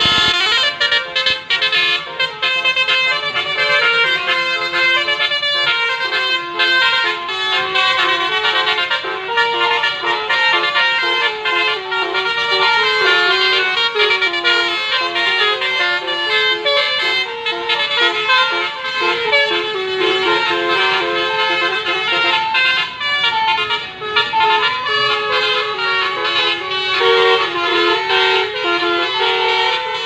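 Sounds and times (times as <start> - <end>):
musical bus air horns: 0.0 - 30.0.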